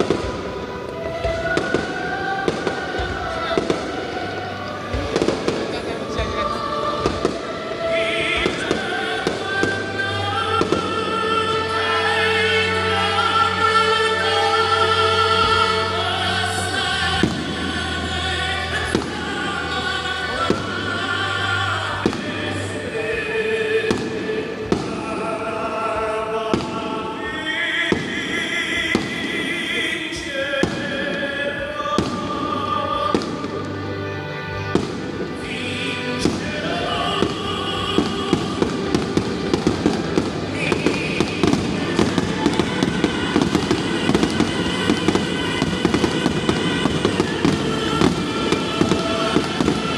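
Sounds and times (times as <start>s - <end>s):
fireworks bursting: 0.0s - 34.0s, 34.6s - 49.9s
music with singing: 0.0s - 49.9s.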